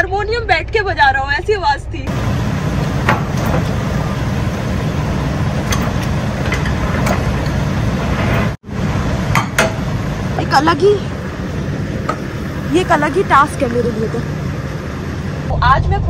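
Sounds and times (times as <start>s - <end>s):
diesel truck engine idling: 2.1s - 15.8s.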